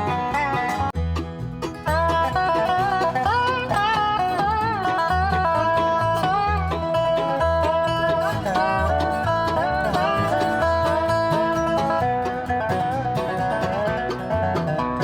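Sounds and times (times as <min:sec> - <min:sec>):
bluegrass music with banjo: 0:00.0 - 0:15.0.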